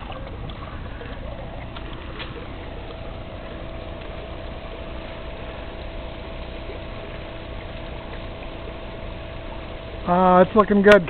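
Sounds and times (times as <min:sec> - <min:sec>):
falling water: 0:00.0 - 0:11.0
machine humming: 0:00.0 - 0:11.0.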